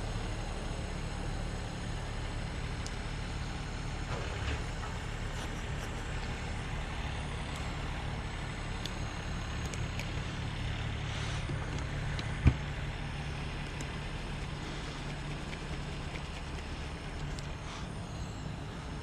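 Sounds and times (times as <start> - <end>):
low drone: 0.0 - 19.0.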